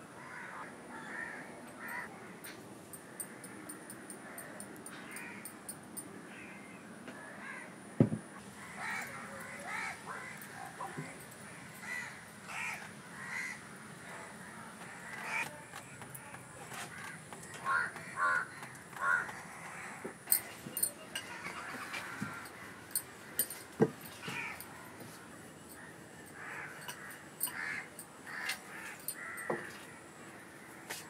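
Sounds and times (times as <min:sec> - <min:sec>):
crows cawing: 0:00.1 - 0:05.6, 0:06.3 - 0:07.8, 0:08.4 - 0:31.0.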